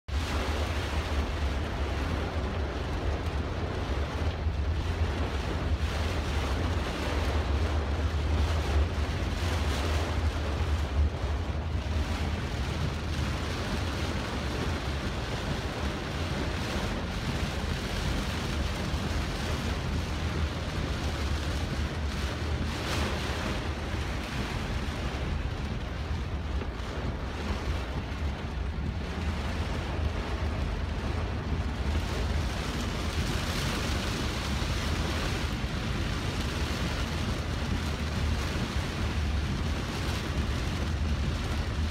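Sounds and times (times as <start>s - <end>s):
heavy rain on car roof: 0.1s - 41.9s
low rumble: 0.2s - 41.9s.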